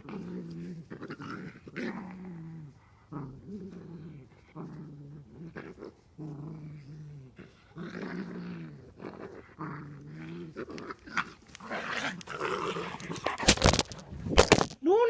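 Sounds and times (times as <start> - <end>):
dog growling and snarling: 0.0 - 13.9.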